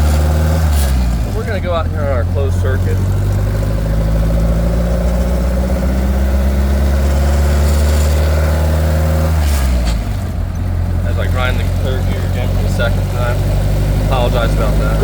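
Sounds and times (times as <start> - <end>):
car engine pulling under load: 0.0 - 15.0
gear grind: 0.0 - 15.0.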